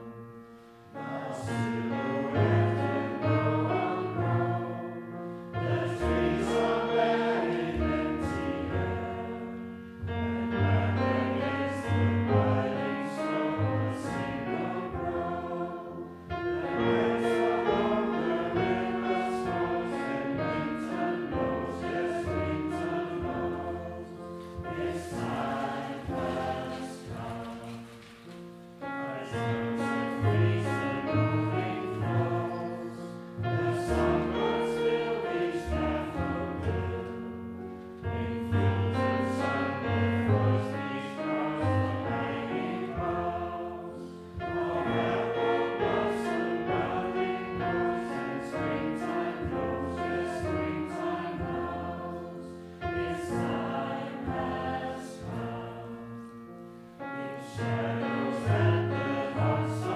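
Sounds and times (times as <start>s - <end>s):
group of men and women singing: 0.9s - 9.8s, 10.4s - 28.2s, 28.8s - 37.4s, 38.4s - 56.3s, 57.4s - 59.9s.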